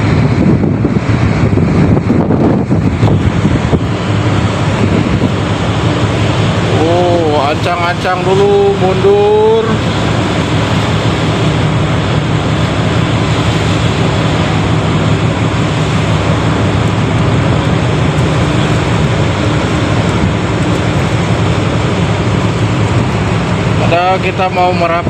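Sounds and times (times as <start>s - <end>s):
engine humming: 0.0s - 25.0s
strong wind rushing: 0.0s - 25.0s.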